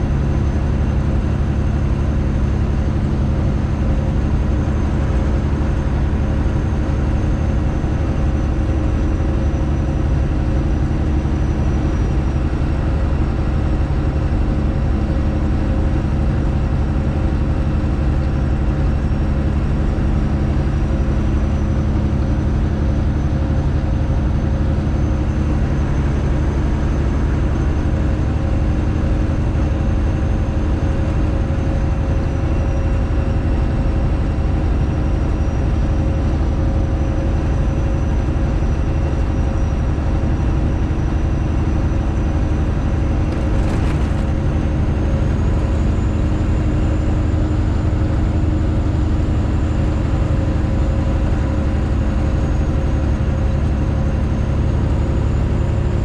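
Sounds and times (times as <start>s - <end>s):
loud truck diesel engine: 0.0s - 56.0s.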